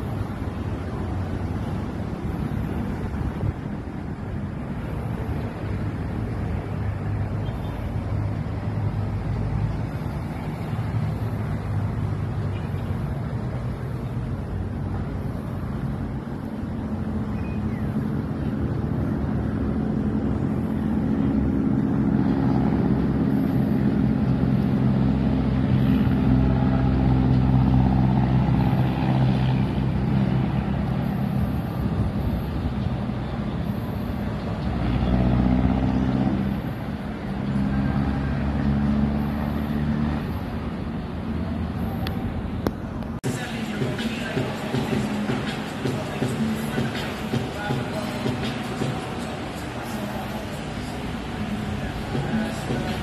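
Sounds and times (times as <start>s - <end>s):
vehicle engines rumbling: 0.0s - 53.0s.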